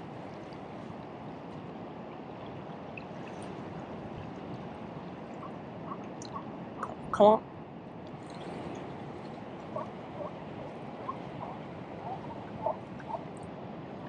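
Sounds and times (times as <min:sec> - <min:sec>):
water rushing: 0:00.0 - 0:07.4, 0:08.1 - 0:14.0.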